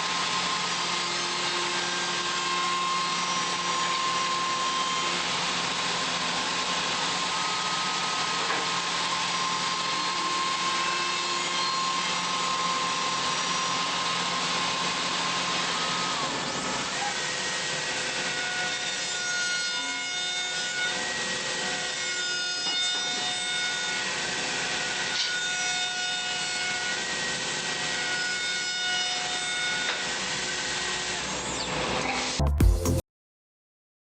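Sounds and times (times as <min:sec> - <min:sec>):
woodworking machine cutting wood: 0:00.0 - 0:32.4.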